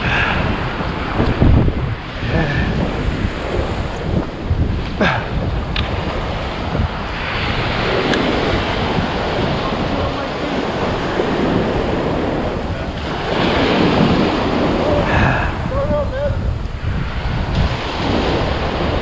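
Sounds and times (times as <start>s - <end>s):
ocean surf breaking: 0.0s - 19.0s
wind rumbling on microphone: 0.0s - 19.0s.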